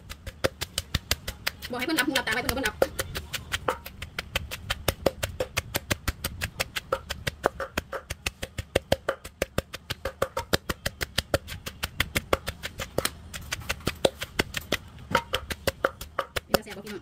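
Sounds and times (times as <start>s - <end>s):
pestle pounding in mortar: 0.0s - 17.0s.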